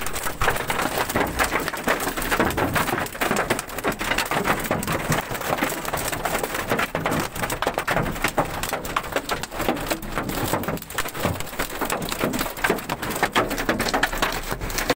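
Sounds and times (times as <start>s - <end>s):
hail pelting a car roof: 0.0s - 14.9s.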